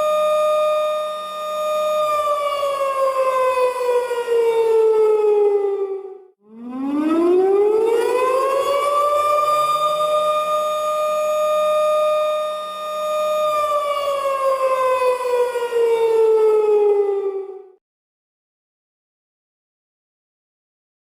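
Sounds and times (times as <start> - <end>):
warning siren wailing: 0.0 - 17.8.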